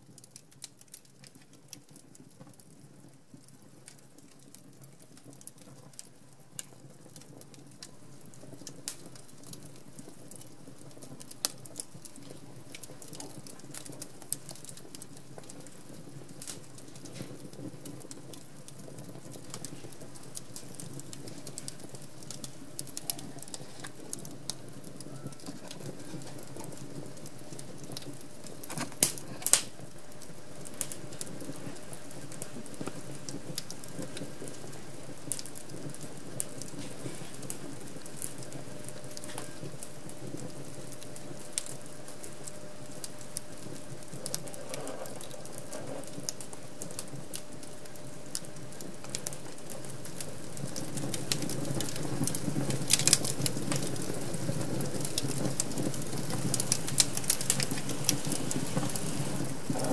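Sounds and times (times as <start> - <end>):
soft rush of flames: 0.0 - 59.9
wood fire crackling: 0.0 - 59.9.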